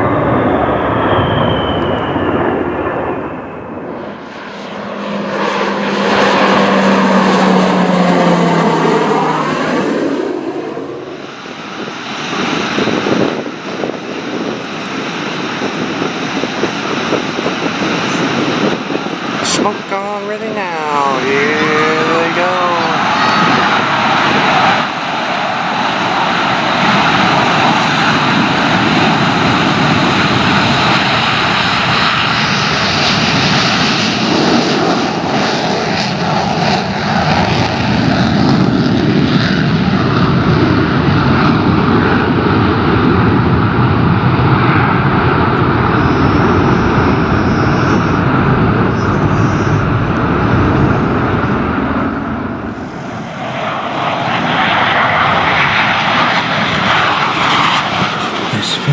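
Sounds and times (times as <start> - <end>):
military aircraft engines: 0.0 - 58.9.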